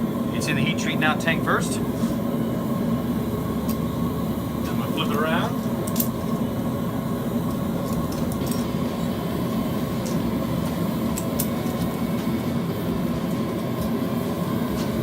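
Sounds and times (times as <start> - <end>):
forge running: 0.0 - 15.0.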